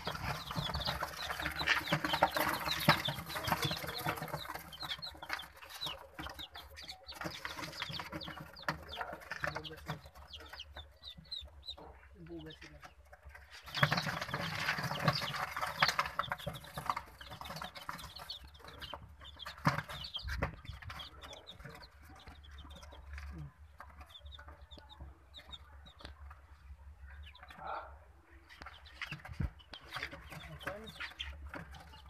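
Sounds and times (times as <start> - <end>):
ducklings and chicks peeping: 0.0 - 32.0.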